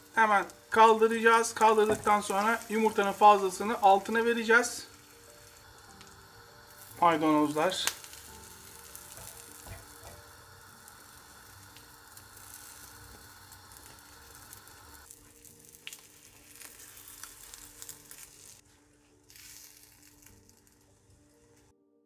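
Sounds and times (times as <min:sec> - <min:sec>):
omelette sizzling in a pan: 0:00.0 - 0:21.7.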